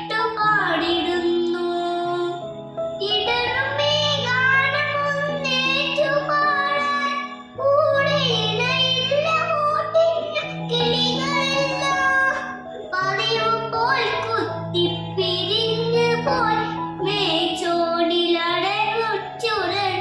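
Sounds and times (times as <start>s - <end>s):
child singing: 0.0s - 2.4s, 3.0s - 20.0s
instrumental backing track: 0.0s - 20.0s.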